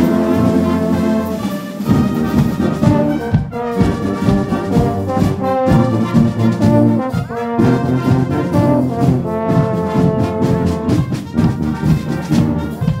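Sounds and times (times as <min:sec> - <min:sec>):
marching brass band playing: 0:00.0 - 0:13.0.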